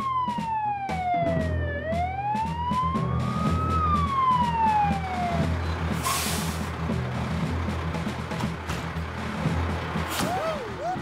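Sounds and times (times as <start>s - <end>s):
fire engine siren wailing: 0.0s - 8.4s, 9.2s - 11.0s.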